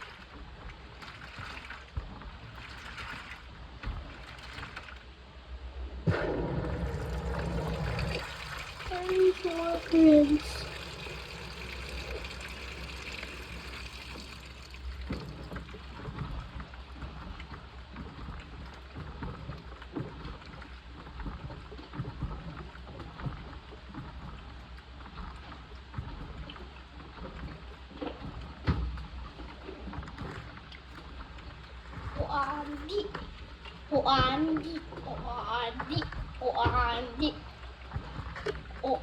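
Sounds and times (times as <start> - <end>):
low motor hum: 0.0 - 39.0
water sloshing in washing machine: 0.0 - 39.0.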